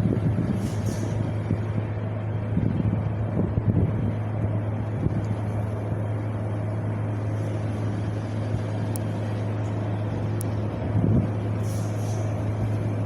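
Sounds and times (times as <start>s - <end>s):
wind blowing with low rumble: 0.0s - 13.0s.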